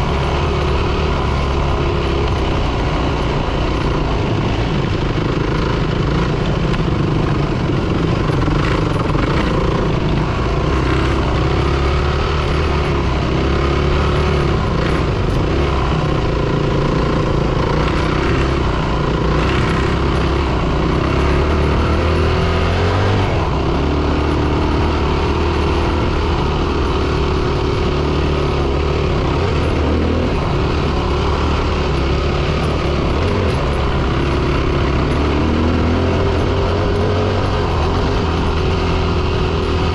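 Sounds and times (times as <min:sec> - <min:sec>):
rumble and rushing noise: 0:00.0 - 0:39.9
dirt bike engine revving: 0:07.6 - 0:39.9.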